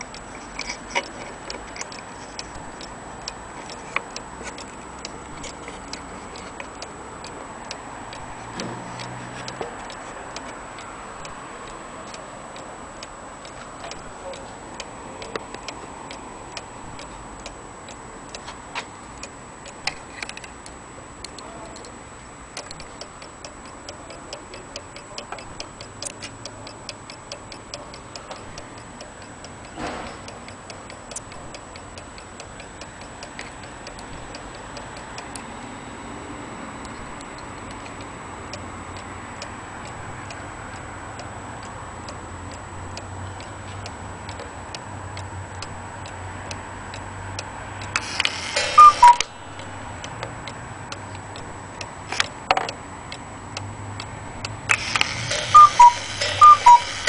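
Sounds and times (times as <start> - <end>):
cuckoo clock ticking: 0.0 - 35.8, 36.8 - 57.0.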